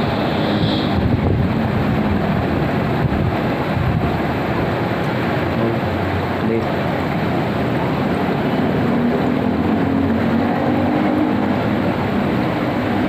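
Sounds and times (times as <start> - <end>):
hot tub jets rushing water: 0.0 - 13.0.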